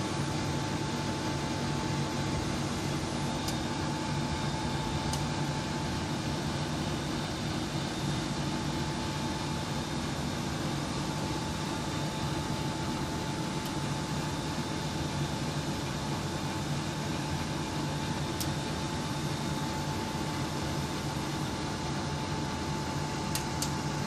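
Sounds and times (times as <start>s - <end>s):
mechanical hum and hiss: 0.0s - 24.0s.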